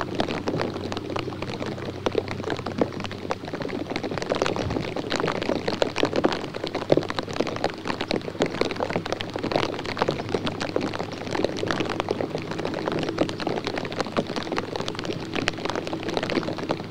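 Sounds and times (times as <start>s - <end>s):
low electrical hum: 0.0s - 16.9s
water drops pattering: 0.0s - 16.9s.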